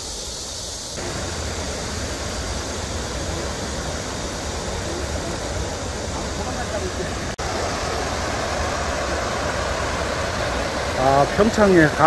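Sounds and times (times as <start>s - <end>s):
river water rushing over weir: 1.0s - 12.0s.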